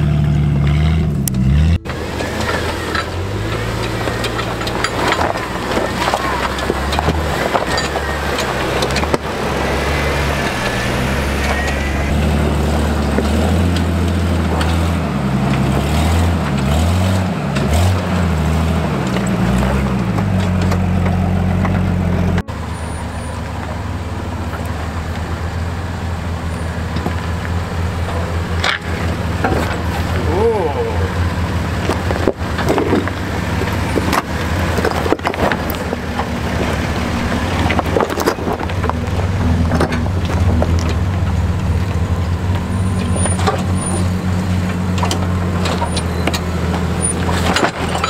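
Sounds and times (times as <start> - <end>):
low engine note: 0.0 - 48.0
off-road engine revving: 0.0 - 48.0.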